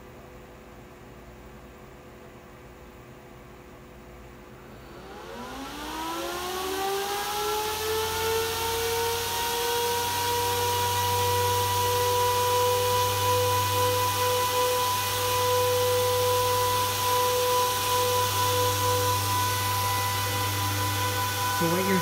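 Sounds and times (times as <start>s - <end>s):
cooling fans whining: 3.5s - 22.0s.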